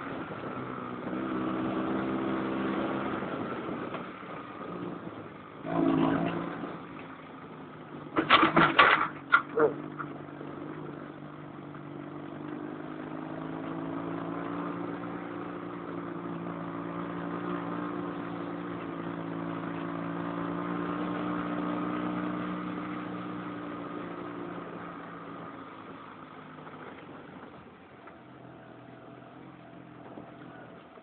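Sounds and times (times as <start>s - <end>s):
dune buggy engine running: 0.0s - 31.0s.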